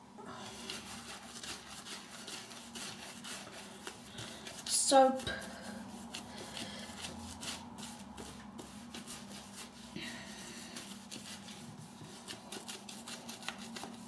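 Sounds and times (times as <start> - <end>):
low steady hum: 0.0 - 14.0
shaving brush strokes: 0.4 - 14.0.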